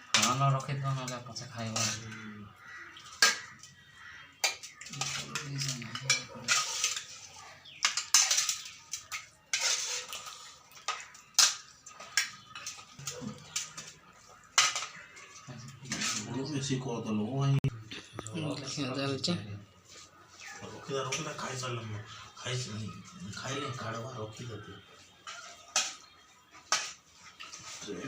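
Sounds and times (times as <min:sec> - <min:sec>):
dishes and cutlery clinking: 0:00.0 - 0:16.8, 0:20.4 - 0:28.0.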